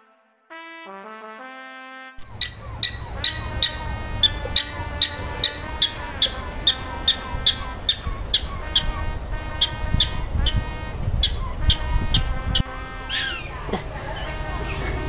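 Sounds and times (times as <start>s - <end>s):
prairie dog barking: 2.2s - 14.3s.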